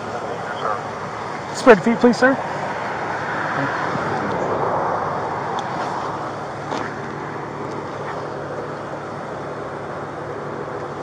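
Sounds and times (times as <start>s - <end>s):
vehicle passing: 0.0s - 9.3s.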